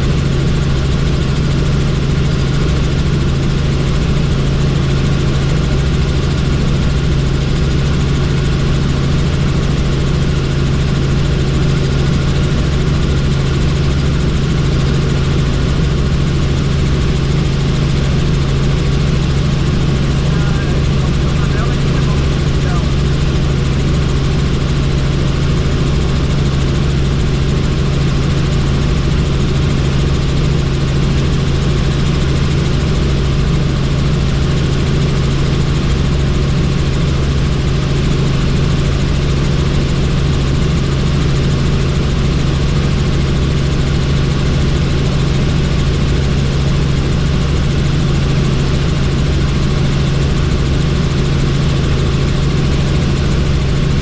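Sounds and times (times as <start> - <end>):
helicopter cabin drone: 0.0 - 54.0.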